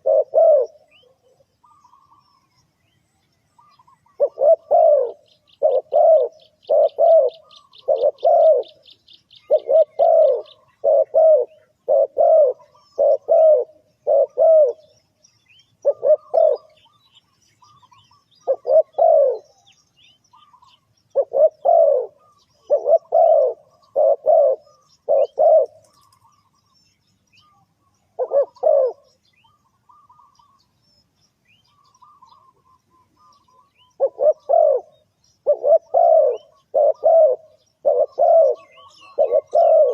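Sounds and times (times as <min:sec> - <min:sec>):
dove cooing: 0:00.0 - 0:02.6, 0:03.6 - 0:15.1, 0:15.7 - 0:26.8, 0:27.4 - 0:30.7, 0:31.7 - 0:39.9.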